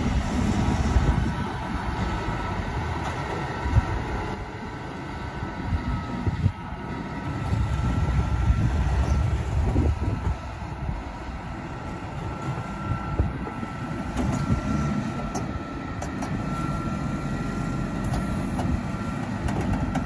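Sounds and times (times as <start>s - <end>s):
faint steady whine: 0.0s - 19.5s
diesel engines rumbling: 0.0s - 20.0s.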